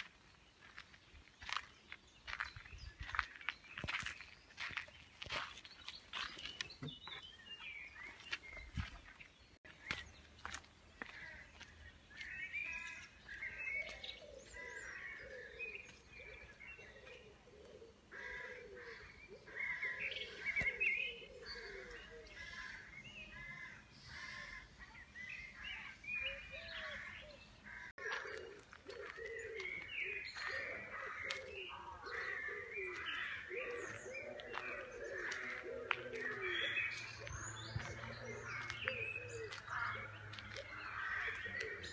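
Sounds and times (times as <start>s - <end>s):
birds chirping and singing: 0.0s - 41.9s.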